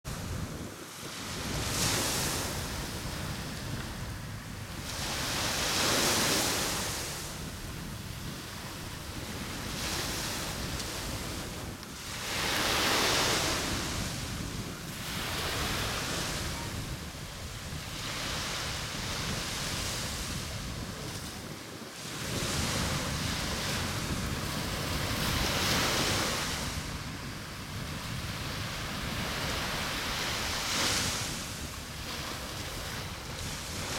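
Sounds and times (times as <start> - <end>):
wind rumble on microphone: 0.0 - 33.9
surf washing on beach: 0.1 - 33.9.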